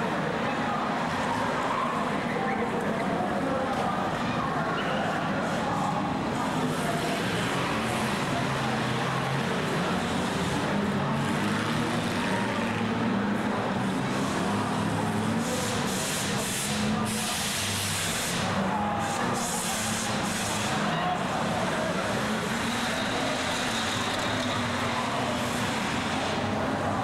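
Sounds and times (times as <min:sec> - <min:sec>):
racing car engines: 0:00.0 - 0:27.0.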